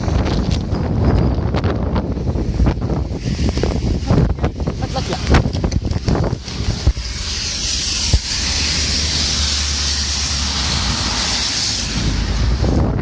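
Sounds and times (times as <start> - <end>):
low rumble: 0.0 - 13.0
heavy rain: 2.0 - 13.0.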